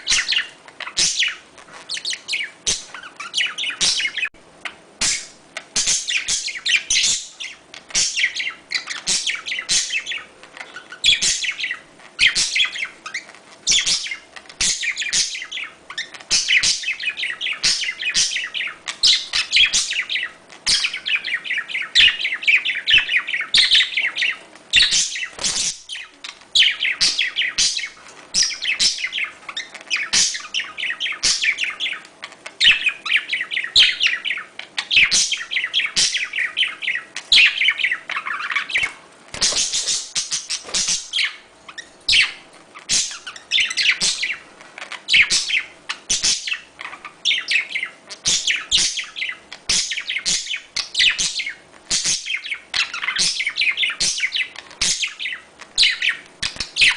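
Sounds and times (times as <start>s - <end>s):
budgerigars chattering: 0.0s - 56.9s.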